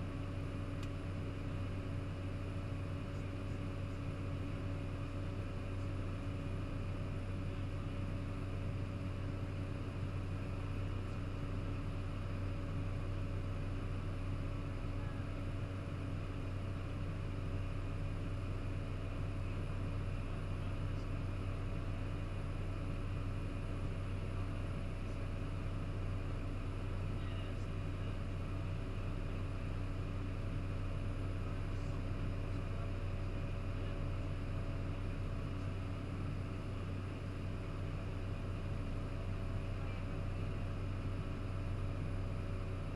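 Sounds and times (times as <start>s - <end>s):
turboprop engine droning: 0.0s - 42.9s.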